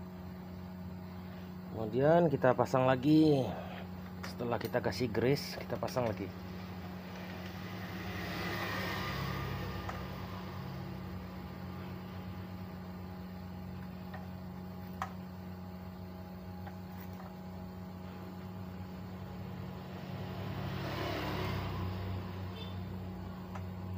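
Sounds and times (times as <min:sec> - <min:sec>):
low background hum: 0:00.0 - 0:23.9.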